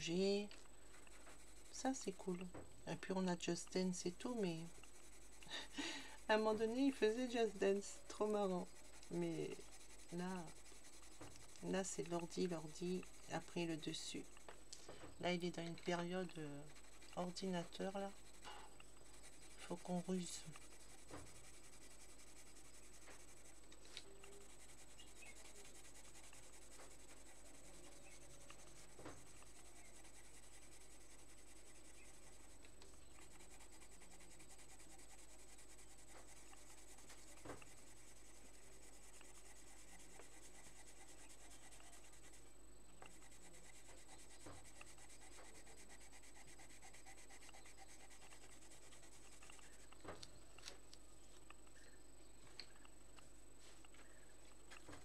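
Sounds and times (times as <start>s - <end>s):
pencil scratching on paper: 0.0s - 50.2s.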